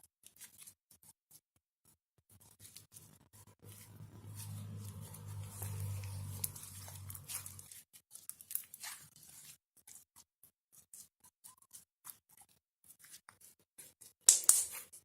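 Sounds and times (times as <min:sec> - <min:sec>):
slime squishing and crackling: 0:02.4 - 0:15.0.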